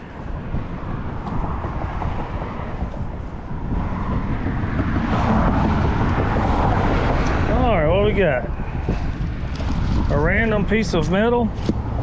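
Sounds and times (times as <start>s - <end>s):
traffic rumbling on a bridge: 0.0s - 12.0s.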